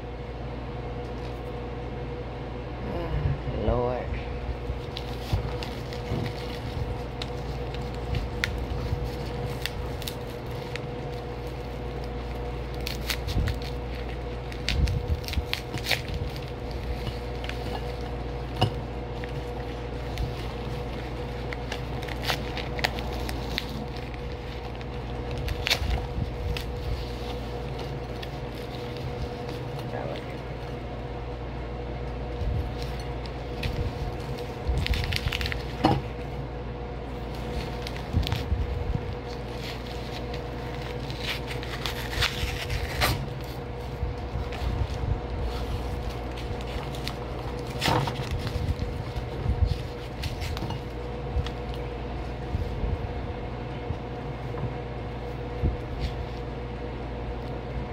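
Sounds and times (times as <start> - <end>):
steady low hum: 0.0 - 57.9
paper packaging crinkling and tearing: 4.6 - 31.4, 32.0 - 54.5.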